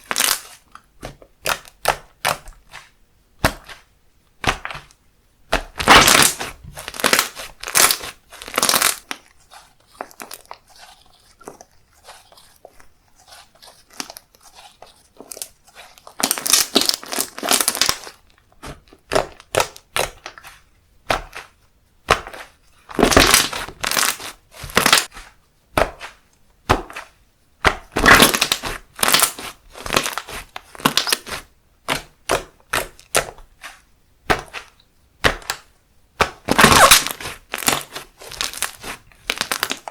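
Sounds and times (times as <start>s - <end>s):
slime crackling and popping: 0.0s - 0.6s, 4.4s - 12.2s, 15.2s - 25.2s, 25.9s - 39.9s.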